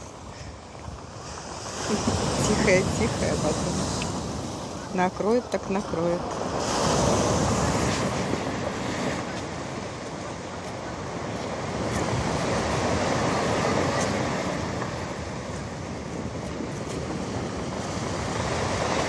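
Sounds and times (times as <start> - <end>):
surf waves crashing: 0.0 - 19.0.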